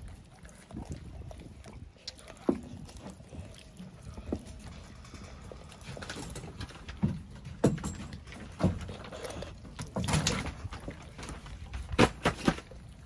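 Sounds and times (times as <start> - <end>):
dog chewing and tearing meat: 0.0 - 13.0.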